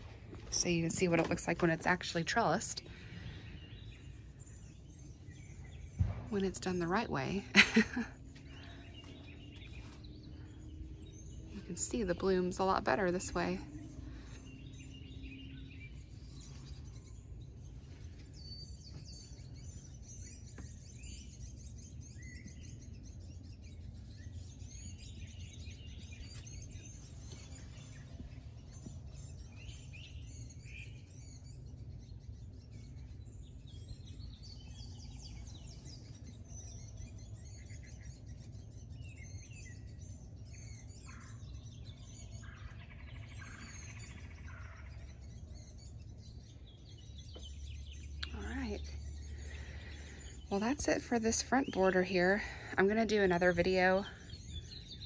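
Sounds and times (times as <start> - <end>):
low steady rumble: 0.0 - 55.0
songbirds chirping and singing: 0.0 - 55.0.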